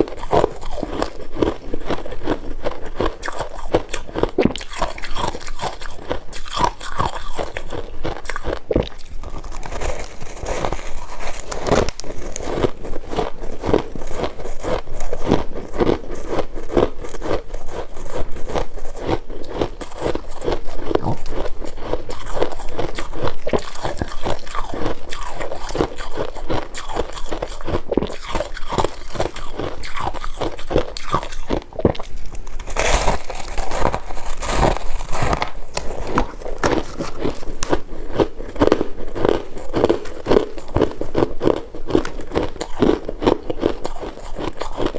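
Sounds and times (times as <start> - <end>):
frost being chewed crunching: 0.0 - 44.9.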